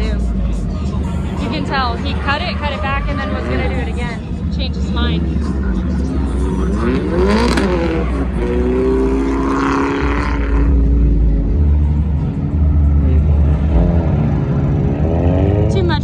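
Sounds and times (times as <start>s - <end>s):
car engine revving hard: 1.5s - 16.0s.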